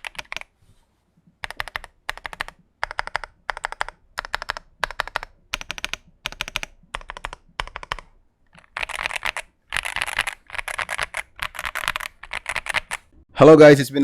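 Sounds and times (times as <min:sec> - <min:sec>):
mechanical keyboard typing: 0:00.0 - 0:00.5, 0:01.4 - 0:13.1.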